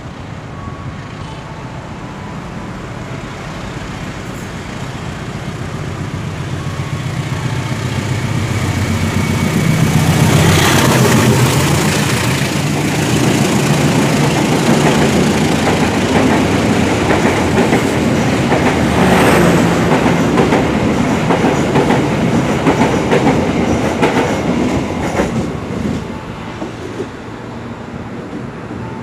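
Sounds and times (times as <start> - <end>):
train rushing past: 0.0 - 29.0.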